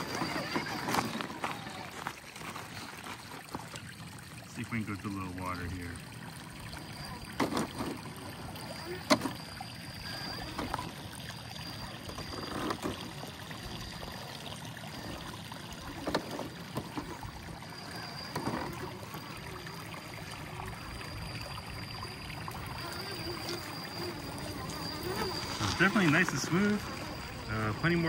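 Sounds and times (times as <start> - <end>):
water splashing and trickling: 0.0 - 28.0
faint high whine: 2.6 - 28.0.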